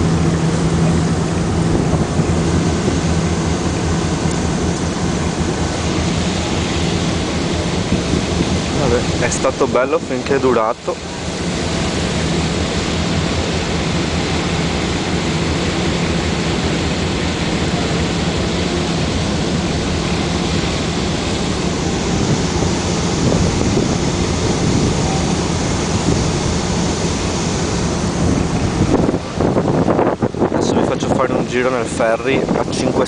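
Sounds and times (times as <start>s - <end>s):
churning wake rushing: 0.0s - 33.0s
ferry engine hum: 0.0s - 33.0s
wind buffeting microphone: 0.0s - 33.0s.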